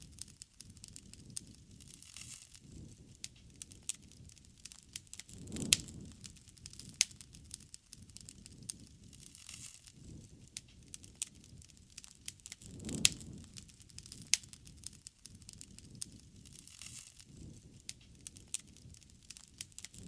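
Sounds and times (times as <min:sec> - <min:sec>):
soft rush of flame: 0:00.0 - 0:20.0
wood fire crackling and popping: 0:00.0 - 0:20.0.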